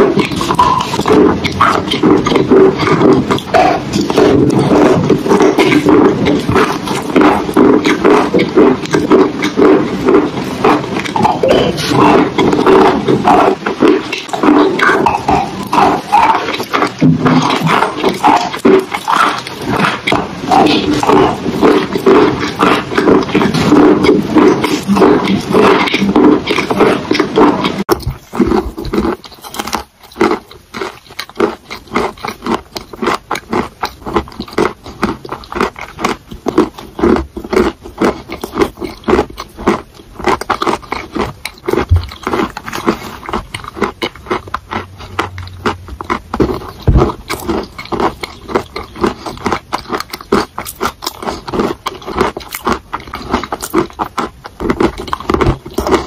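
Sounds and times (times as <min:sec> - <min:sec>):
chewing crunches: 0:00.0 - 0:56.0
mouth sounds: 0:00.0 - 0:56.0.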